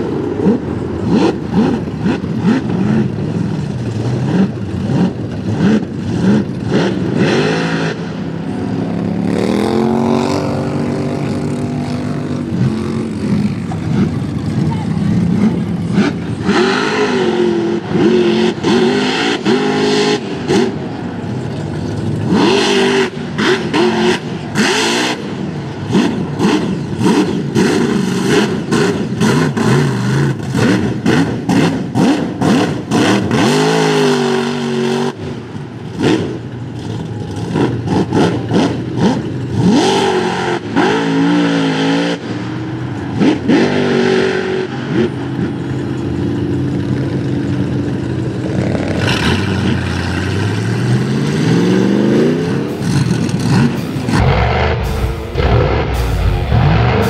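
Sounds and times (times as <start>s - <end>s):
truck engine revving hard: 0.0s - 57.0s.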